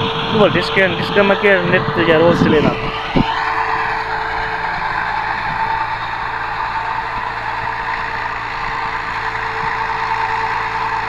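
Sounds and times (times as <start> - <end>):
diesel tractor engine under load: 0.0 - 11.0
high whine: 0.0 - 11.0.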